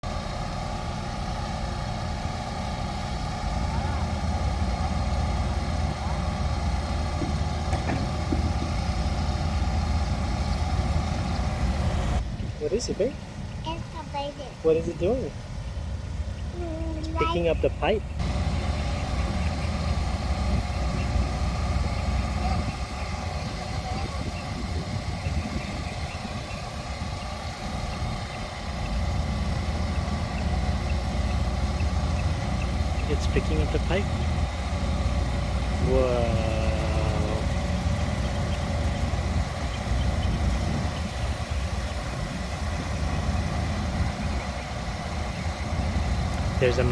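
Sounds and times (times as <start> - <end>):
excavator diesel engine running: 0.0 - 13.0, 13.7 - 46.9.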